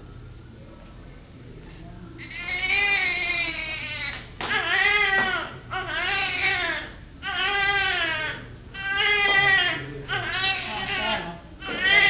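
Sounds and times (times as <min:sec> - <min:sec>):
newborn baby crying: 0:02.3 - 0:12.0.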